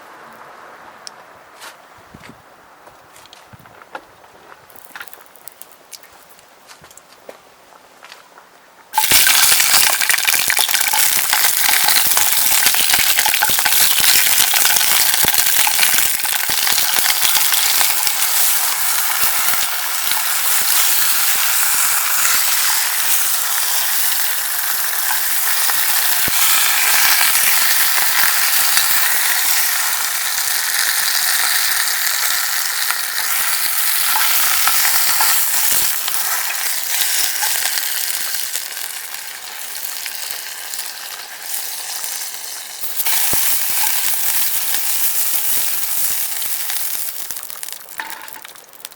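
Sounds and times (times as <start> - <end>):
food sizzling in hot oil: 9.0 - 48.9.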